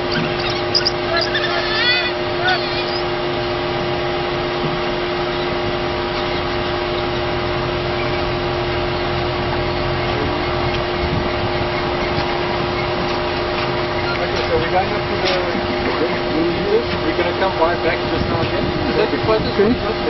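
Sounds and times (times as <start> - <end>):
idling vehicle hum: 0.0 - 20.0.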